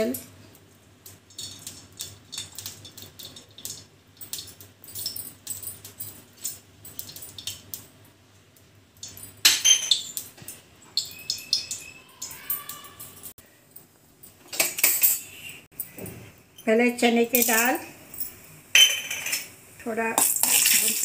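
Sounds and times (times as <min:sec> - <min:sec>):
metal kitchenware clinking: 0:01.0 - 0:07.7, 0:09.0 - 0:13.4, 0:14.2 - 0:21.0.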